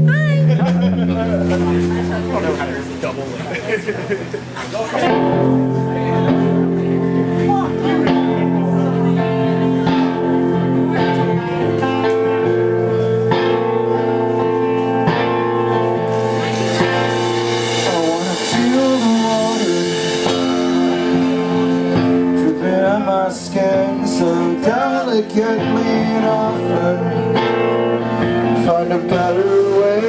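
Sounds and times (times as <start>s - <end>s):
guitar chords and picked notes: 0.0s - 30.0s.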